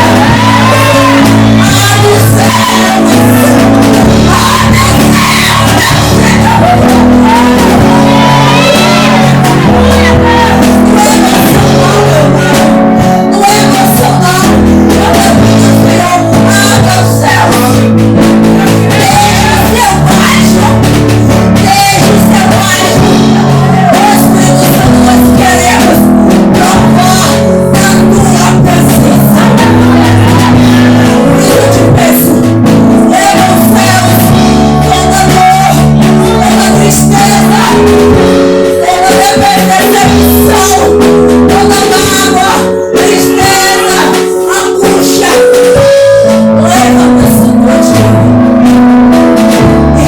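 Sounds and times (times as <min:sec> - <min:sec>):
band playing worship music: 0:00.0 - 0:50.0
person singing: 0:00.0 - 0:50.0.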